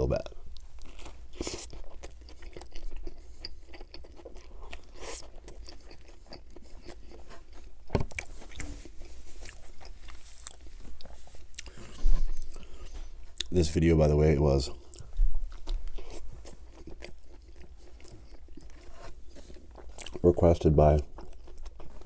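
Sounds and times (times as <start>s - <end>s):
chewing burger: 0.2s - 22.0s.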